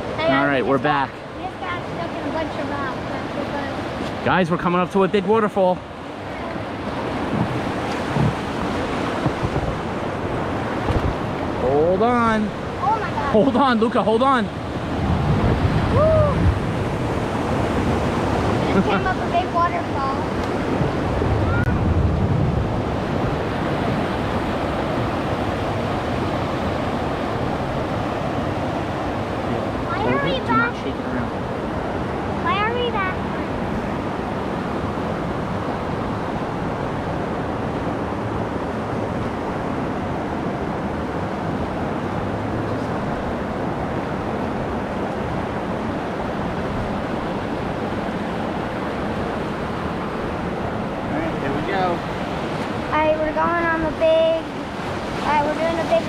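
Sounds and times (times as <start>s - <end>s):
rushing whitewater rapids: 0.0s - 21.8s, 22.9s - 56.0s.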